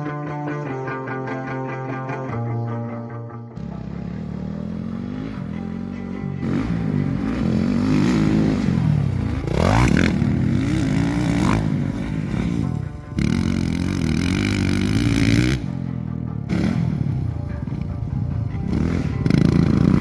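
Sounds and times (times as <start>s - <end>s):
motocross bike engine revving: 3.6s - 20.0s.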